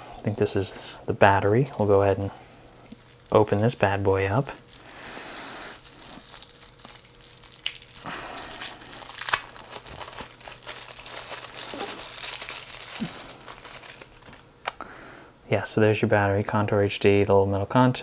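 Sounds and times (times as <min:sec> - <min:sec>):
plastic packaging crinkling: 0:00.0 - 0:14.5.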